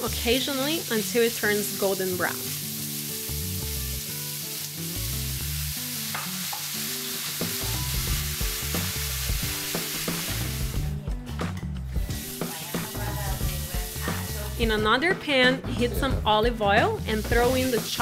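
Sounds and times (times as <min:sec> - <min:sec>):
meat sizzling in a pan: 0:00.0 - 0:10.9, 0:12.0 - 0:14.8, 0:17.1 - 0:18.0.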